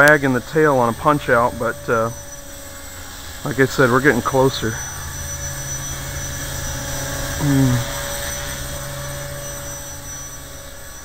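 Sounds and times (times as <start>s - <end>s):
model helicopter whine: 0.0s - 11.0s.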